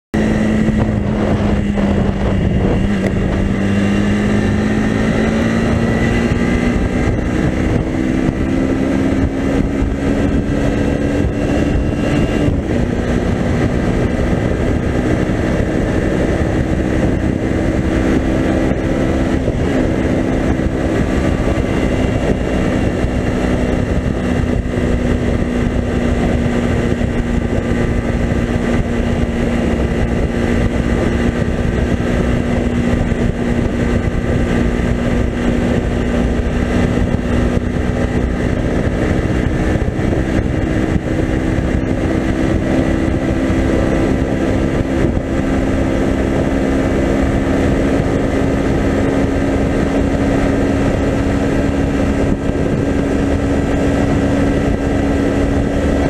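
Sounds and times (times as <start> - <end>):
scooter engine at speed: 0.1 - 56.0
wind rush on microphone: 0.1 - 56.0.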